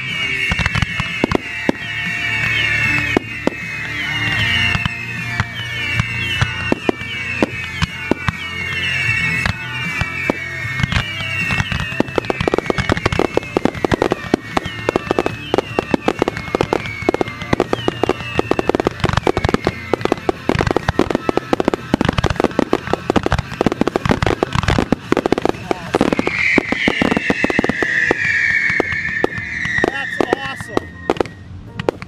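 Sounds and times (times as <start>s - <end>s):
fireworks bursting and crackling: 0.0s - 32.0s
show music: 0.0s - 32.0s.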